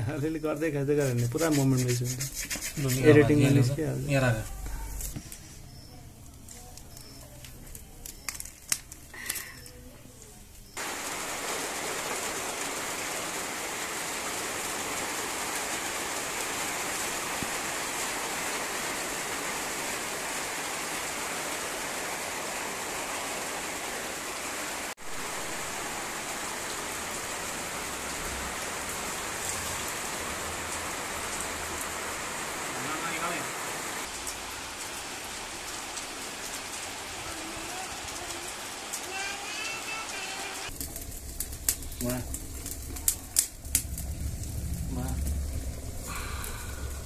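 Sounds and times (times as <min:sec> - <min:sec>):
rain on wet concrete: 0:00.0 - 0:47.0.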